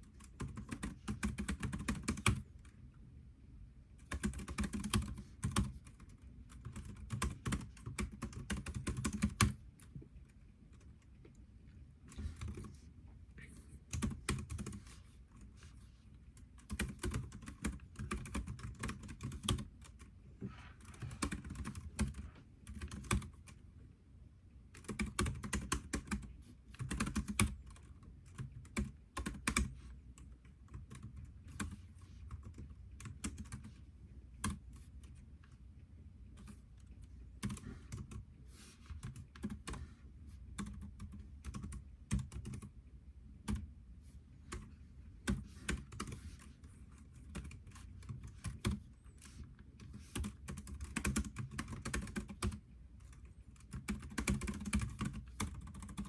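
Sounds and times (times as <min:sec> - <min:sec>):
computer keyboard typing: 0:00.0 - 0:02.8, 0:04.0 - 0:10.0, 0:12.1 - 0:12.8, 0:13.8 - 0:15.5, 0:16.3 - 0:20.2, 0:20.8 - 0:23.6, 0:24.7 - 0:33.8, 0:34.4 - 0:35.2, 0:36.3 - 0:39.9, 0:40.5 - 0:42.8, 0:43.4 - 0:43.7, 0:44.5 - 0:56.0.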